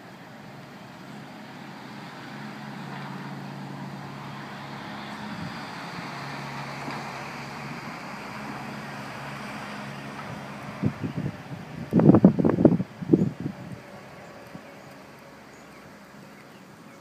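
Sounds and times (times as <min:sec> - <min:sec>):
road noise: 0:00.0 - 0:17.0
vehicle engine humming: 0:00.0 - 0:17.0.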